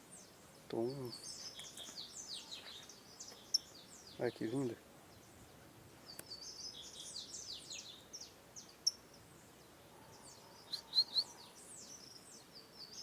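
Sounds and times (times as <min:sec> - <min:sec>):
songbirds chirping and singing: 0:00.0 - 0:13.0.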